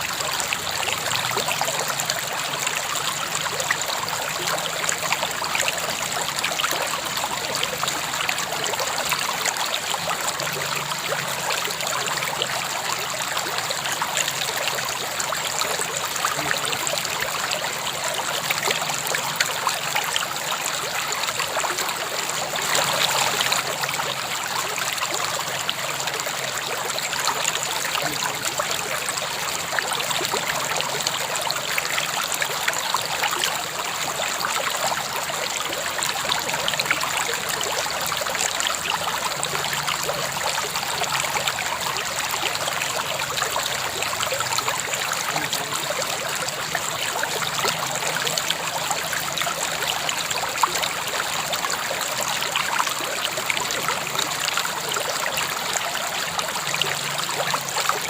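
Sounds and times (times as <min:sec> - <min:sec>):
river water flowing over stones: 0:00.0 - 0:58.0.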